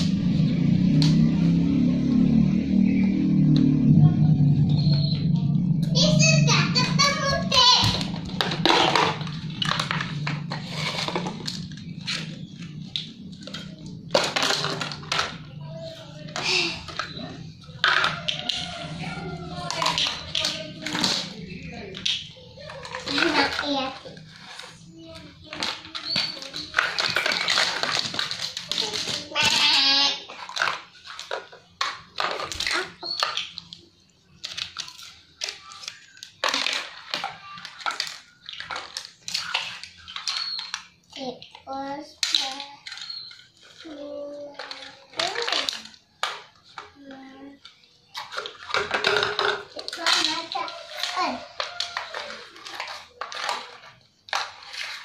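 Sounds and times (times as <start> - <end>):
children's vocal sounds: 0.0 - 31.0, 34.6 - 54.0
plastic toys clattering on tiles: 5.9 - 55.0.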